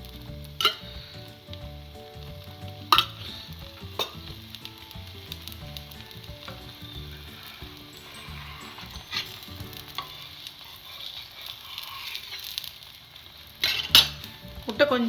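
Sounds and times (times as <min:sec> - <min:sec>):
omelette sizzling on a griddle: 0:00.0 - 0:15.0.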